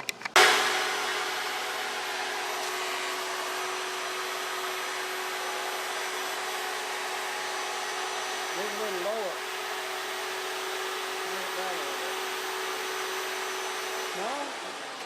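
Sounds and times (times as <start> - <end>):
electric wood planer running: 0.4 - 15.0.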